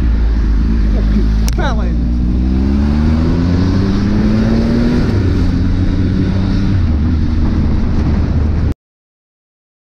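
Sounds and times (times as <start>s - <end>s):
motorcycle engine running: 0.0s - 8.7s
wind rushing over microphone: 0.0s - 8.8s.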